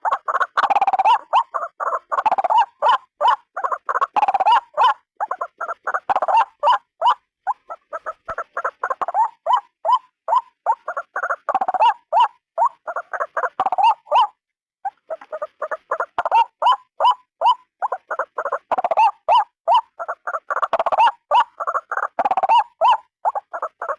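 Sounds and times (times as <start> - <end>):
bird calling repeated notes: 0.0 - 23.9.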